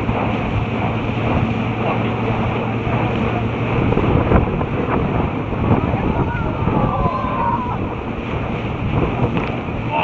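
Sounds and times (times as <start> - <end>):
steady low hum: 0.0 - 10.0
water rushing and spraying: 0.0 - 10.0
wind buffeting microphone: 0.0 - 10.0.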